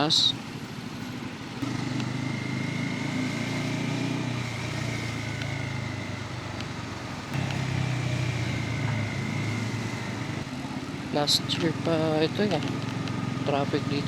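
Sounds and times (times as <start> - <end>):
motorcycle engine revving: 0.7 - 14.0.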